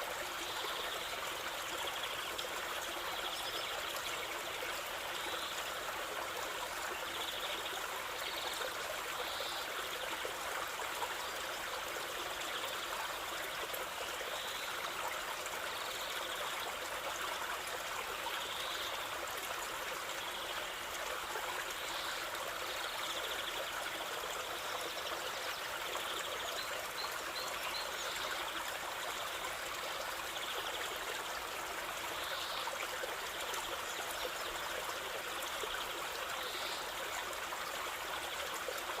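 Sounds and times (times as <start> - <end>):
stream flowing and trickling: 0.0 - 39.0.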